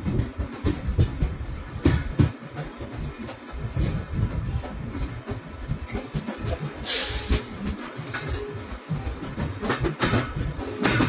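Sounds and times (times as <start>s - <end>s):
train rumble on board: 0.0s - 11.0s
wheels knocking on track: 0.0s - 11.0s.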